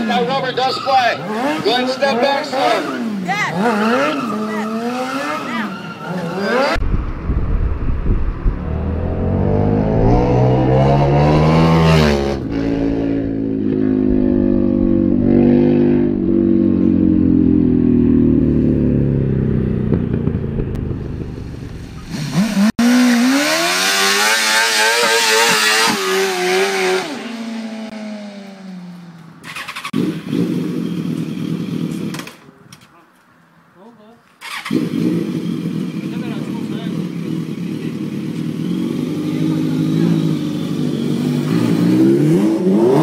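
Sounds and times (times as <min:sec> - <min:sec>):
second motorcycle revving: 0:00.0 - 0:32.4, 0:34.4 - 0:43.0
motorcycle engine revving: 0:01.0 - 0:32.4, 0:34.4 - 0:43.0.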